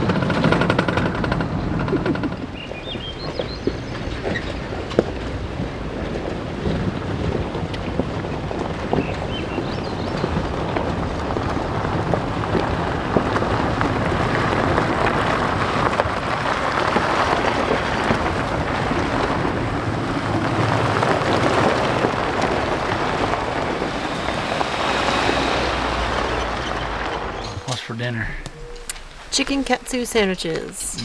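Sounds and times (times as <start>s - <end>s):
vehicle engine noise: 0.0s - 31.0s
tyres crunching over gravel: 1.1s - 30.9s.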